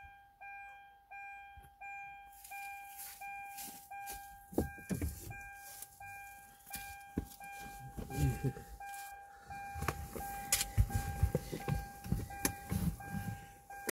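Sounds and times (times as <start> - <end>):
car warning chime beeping: 0.0 - 13.9.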